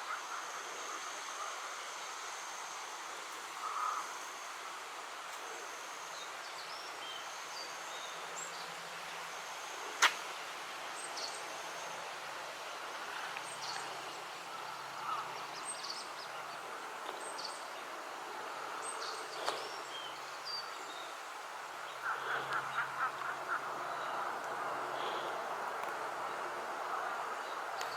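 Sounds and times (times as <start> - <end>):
steady background hiss: 0.0 - 27.9.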